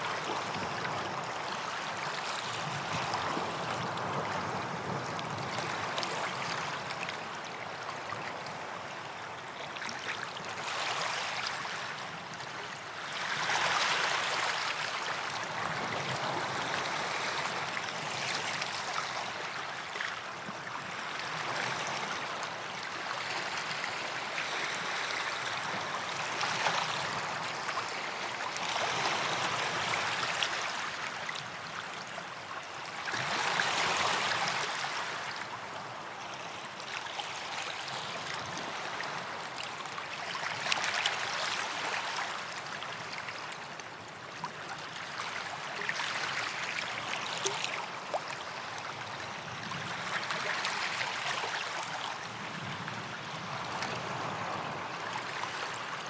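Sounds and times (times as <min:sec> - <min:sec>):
waves lapping on sandy beach: 0:00.0 - 0:56.0.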